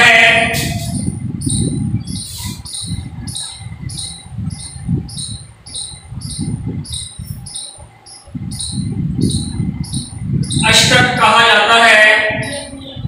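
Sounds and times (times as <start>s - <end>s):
high chirp: 0.4s - 11.4s, 12.3s - 12.8s
marker pen writing on whiteboard: 0.5s - 11.2s.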